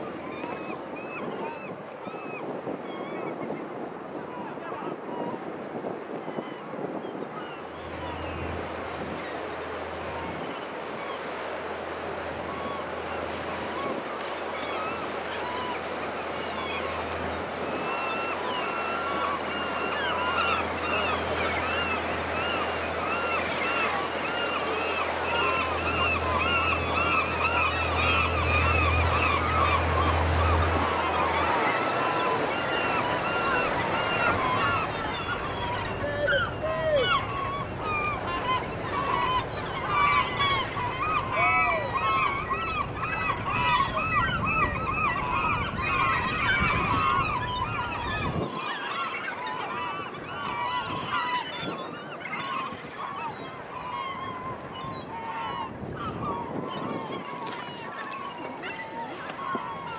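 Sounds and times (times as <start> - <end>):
gulls calling: 0.0 - 59.9
boat engine humming: 6.8 - 59.9.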